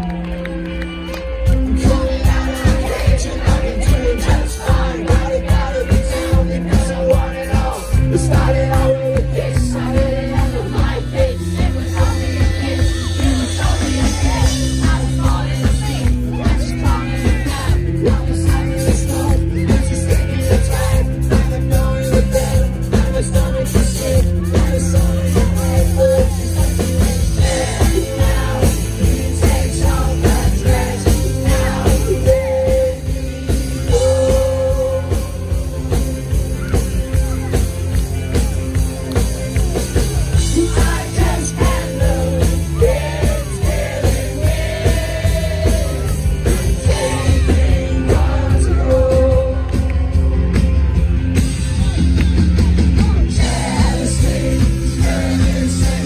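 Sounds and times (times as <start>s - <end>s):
live rock band playing: 0.0s - 56.0s
person singing: 1.6s - 37.5s, 40.5s - 50.5s.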